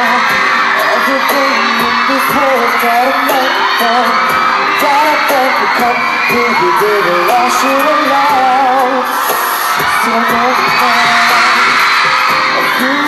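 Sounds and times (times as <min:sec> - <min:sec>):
man singing: 0:00.0 - 0:13.0
pop backing track: 0:00.0 - 0:13.0.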